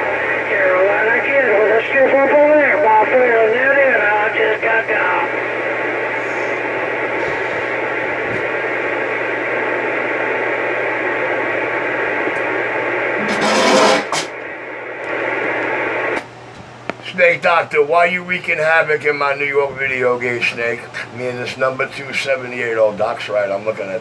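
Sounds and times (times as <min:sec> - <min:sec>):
radio static hiss: 0:00.0 - 0:24.0
steady low hum: 0:00.0 - 0:24.0.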